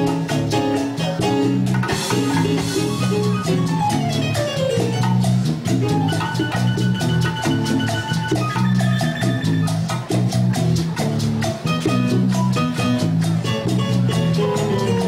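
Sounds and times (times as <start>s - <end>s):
salsa band playing instrumental: 0.0s - 15.0s.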